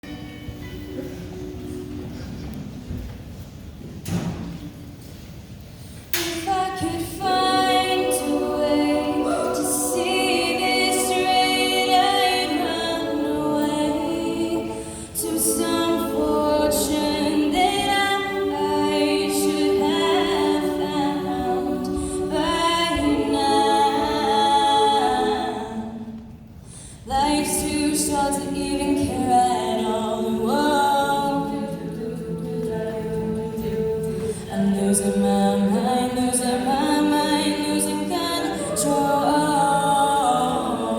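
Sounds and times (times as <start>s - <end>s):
a cappella group singing harmony: 6.2s - 26.4s, 27.0s - 40.9s.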